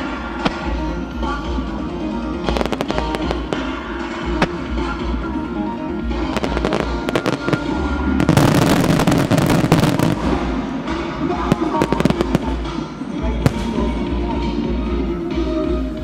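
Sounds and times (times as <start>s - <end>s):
fireworks bangs and crackling: 0.0s - 14.6s
music over loudspeakers: 0.0s - 16.0s.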